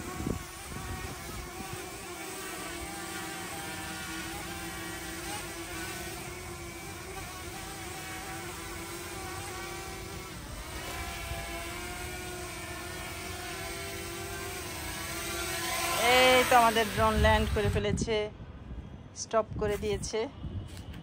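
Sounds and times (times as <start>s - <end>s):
drone propellers buzzing: 0.0s - 17.8s.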